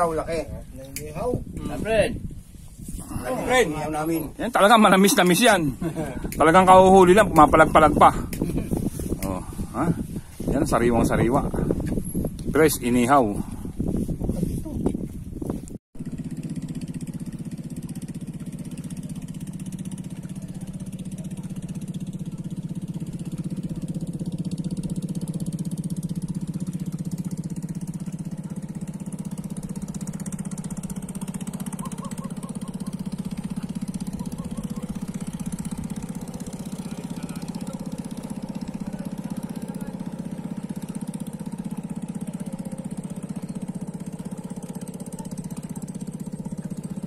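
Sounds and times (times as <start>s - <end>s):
small boat engine running: 0.0s - 47.0s.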